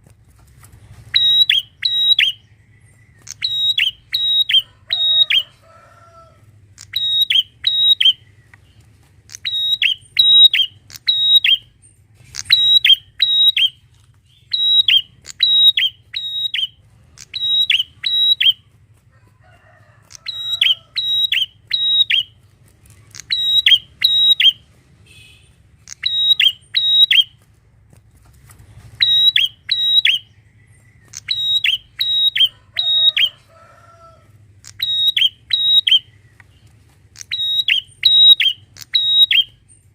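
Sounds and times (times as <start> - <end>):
bird chirping: 1.0 - 5.7, 6.7 - 18.8, 20.1 - 27.4, 28.7 - 33.4, 34.5 - 39.9.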